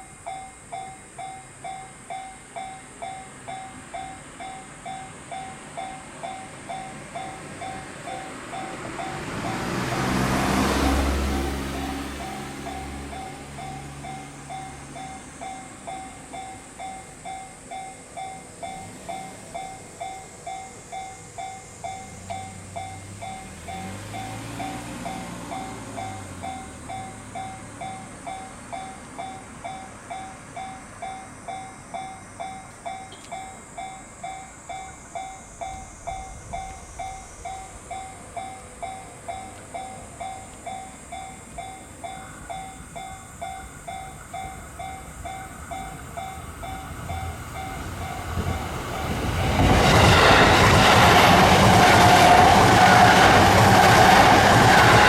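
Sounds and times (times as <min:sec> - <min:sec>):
railroad crossing bell ringing: 0:00.0 - 0:55.0.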